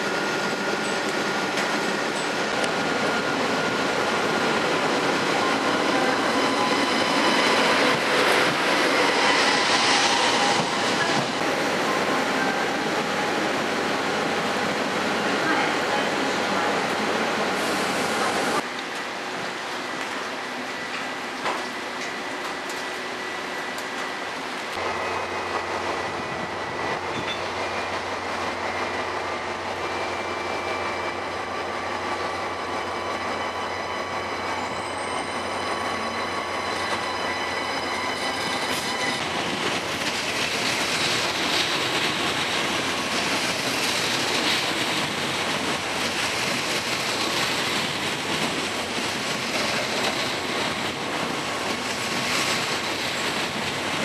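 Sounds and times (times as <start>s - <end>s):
low steady train hum: 0.0s - 54.0s
train wheels rolling on rails: 0.0s - 54.0s.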